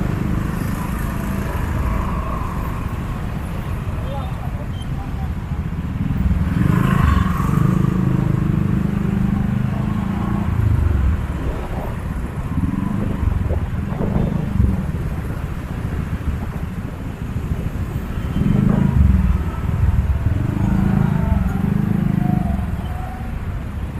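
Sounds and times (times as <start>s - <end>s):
motorcycles and cars passing: 0.0s - 23.9s.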